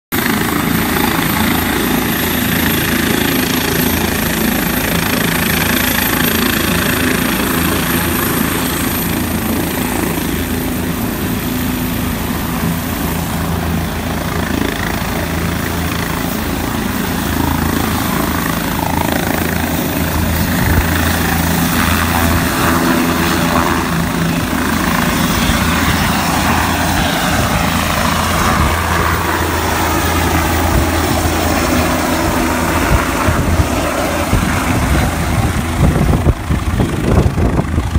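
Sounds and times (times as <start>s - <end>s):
helicopter rotor and engine: 0.1s - 37.9s.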